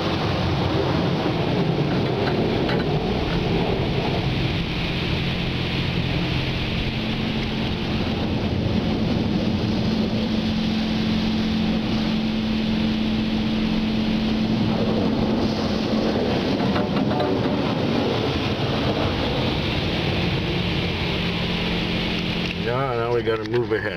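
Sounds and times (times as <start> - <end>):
steady low hum: 0.0 - 23.9
water spray on car: 0.0 - 23.9.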